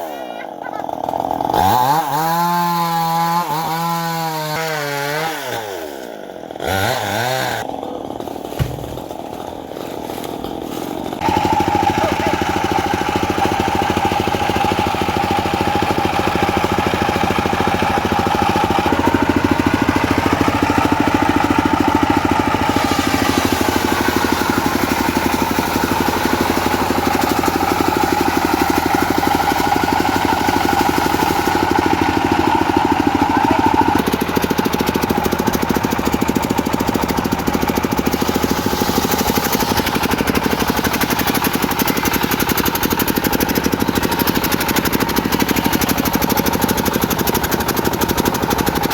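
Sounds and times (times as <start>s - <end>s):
saw blade whine cutting wood: 0.0s - 48.9s
diesel engine running: 7.6s - 48.9s.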